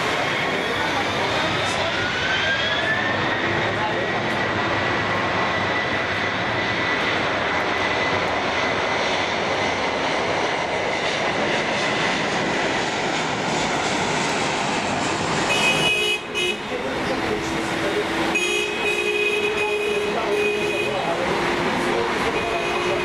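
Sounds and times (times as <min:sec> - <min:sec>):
high jet fan whine: 0:00.0 - 0:23.0
jet engines roaring: 0:00.0 - 0:23.0.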